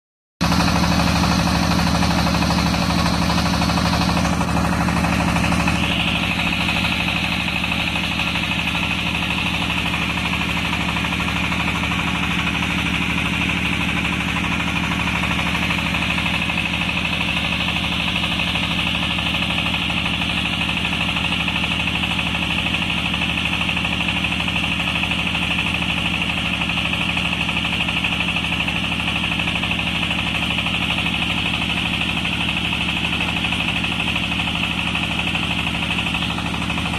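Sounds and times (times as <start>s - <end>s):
drilling rig engine drone: 0.5s - 36.9s.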